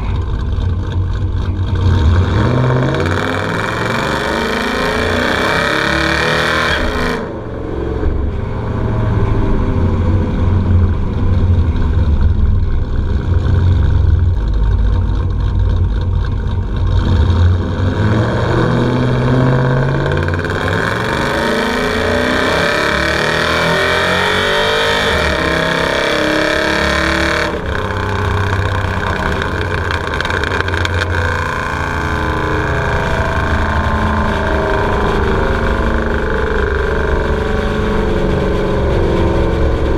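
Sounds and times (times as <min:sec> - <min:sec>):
engine exhaust rumbling: 0:00.0 - 0:06.2, 0:06.8 - 0:39.9.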